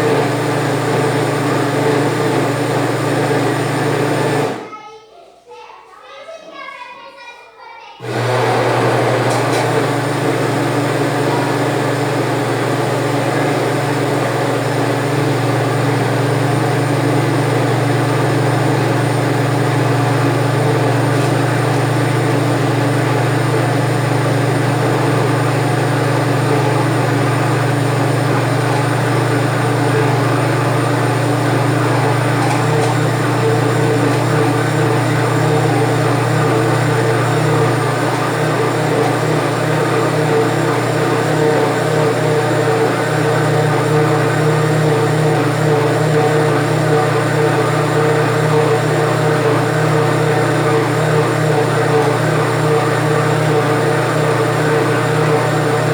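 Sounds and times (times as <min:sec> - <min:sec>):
blender motor running: 0:00.0 - 0:04.7, 0:08.0 - 0:55.9.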